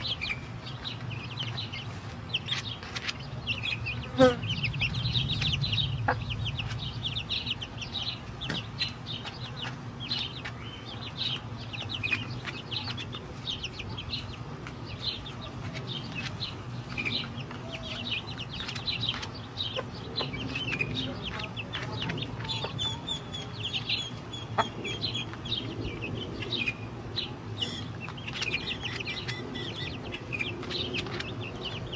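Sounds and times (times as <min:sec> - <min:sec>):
chickens clucking and peeping: 0:00.0 - 0:31.9
steady low hum: 0:00.0 - 0:31.9.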